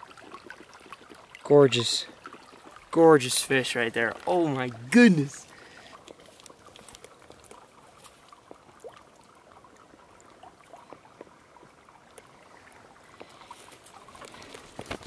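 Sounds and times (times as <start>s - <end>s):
small ticks and plinks: 0.0s - 15.0s
water trickling and dripping: 0.0s - 15.0s.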